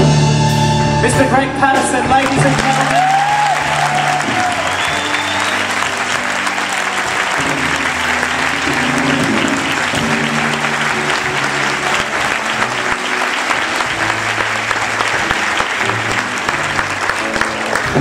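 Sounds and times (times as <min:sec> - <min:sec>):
orchestra holding low chords: 0:00.0 - 0:18.0
audience applauding: 0:02.1 - 0:18.0.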